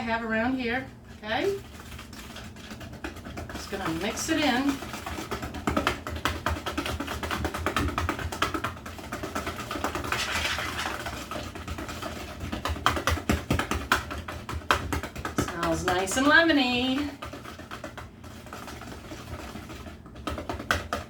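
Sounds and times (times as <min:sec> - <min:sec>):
whisk clicking against bowl: 0:01.6 - 0:21.0.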